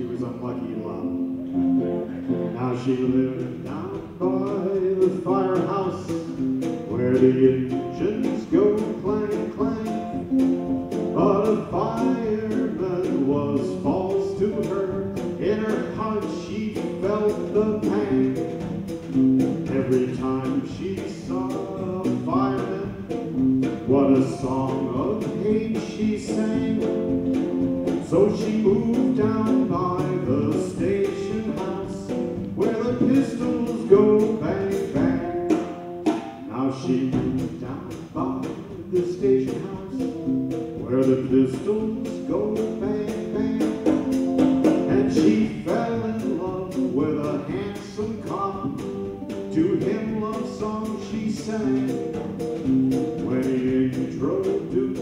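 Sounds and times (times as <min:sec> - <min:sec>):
man singing: 0:00.0 - 0:18.7, 0:19.4 - 0:35.7, 0:36.4 - 0:52.4, 0:53.0 - 0:55.0
strummed guitar: 0:00.0 - 0:55.0.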